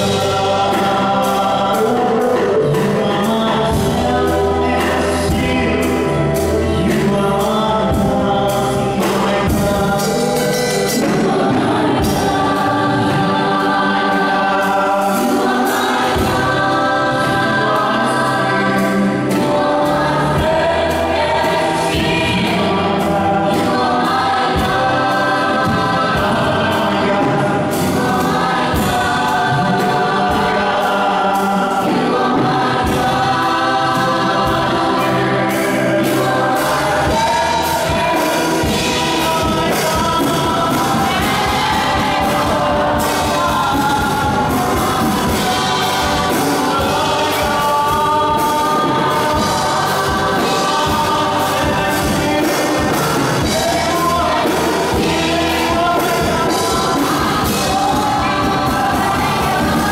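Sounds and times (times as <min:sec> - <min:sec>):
percussion beat: 0:00.0 - 0:59.9
vocal group singing in harmony: 0:00.0 - 0:59.9.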